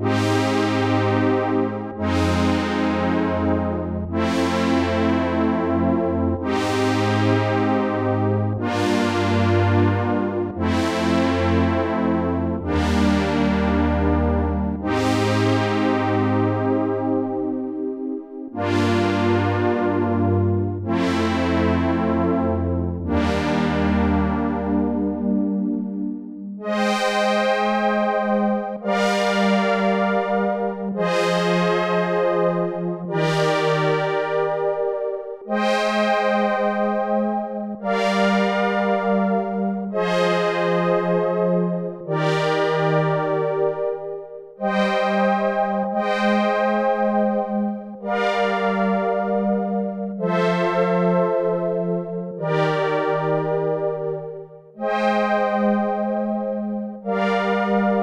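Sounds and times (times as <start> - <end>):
synthesizer sustained chords: 0.0 - 58.0.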